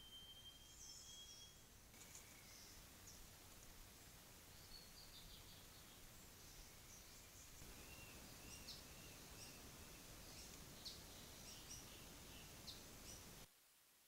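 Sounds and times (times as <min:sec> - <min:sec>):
small birds chirping: 0:00.0 - 0:13.5
low steady hiss: 0:00.0 - 0:14.0.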